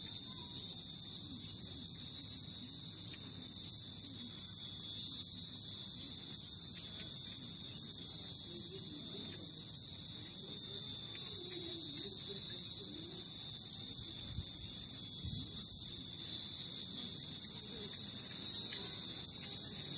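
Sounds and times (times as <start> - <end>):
cicadas droning: 0.0 - 19.9.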